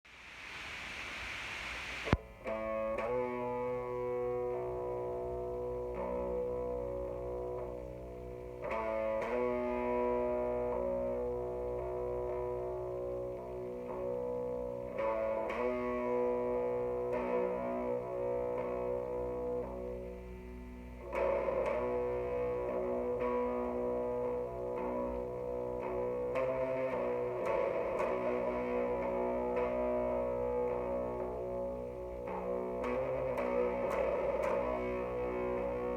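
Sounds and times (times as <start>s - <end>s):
distorted electric guitar chords: 0.4s - 35.9s.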